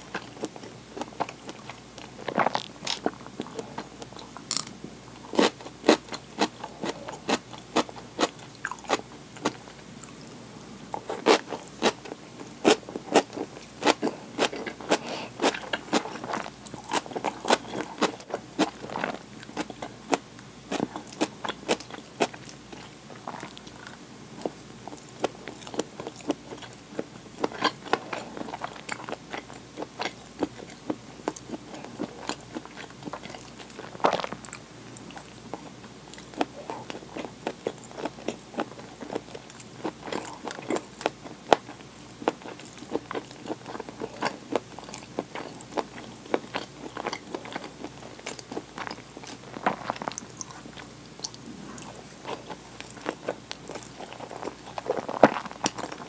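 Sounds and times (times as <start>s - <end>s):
person chewing crunchy food: 0.0s - 10.2s, 10.9s - 56.0s.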